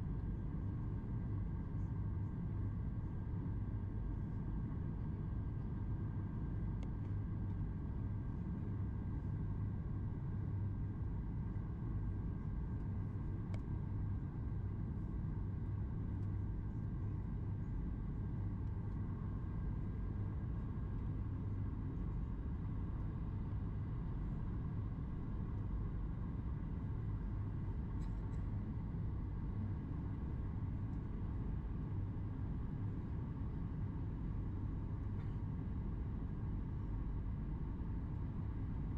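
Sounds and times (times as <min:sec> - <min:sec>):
faint steady hum: 0:00.0 - 0:38.9
jet engine cabin rumble: 0:00.2 - 0:38.9.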